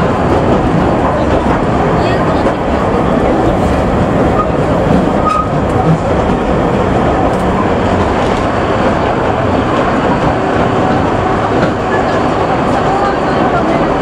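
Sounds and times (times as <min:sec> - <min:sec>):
train wheels rumbling and rattling: 0:00.0 - 0:14.0.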